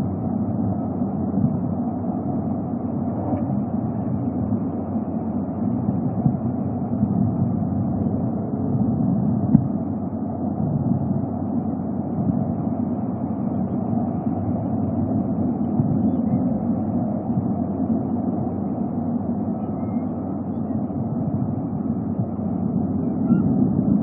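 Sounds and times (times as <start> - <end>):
low rumbling background noise: 0.0 - 24.0.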